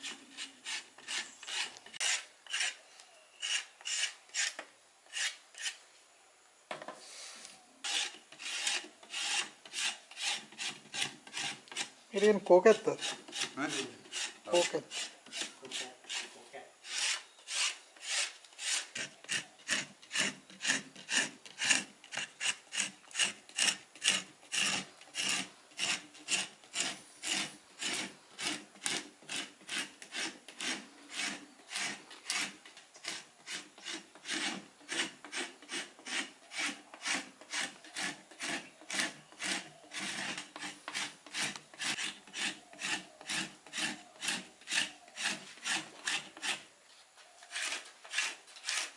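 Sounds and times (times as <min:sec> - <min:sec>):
knife scraping bark: 0:00.0 - 0:05.8, 0:07.1 - 0:48.9.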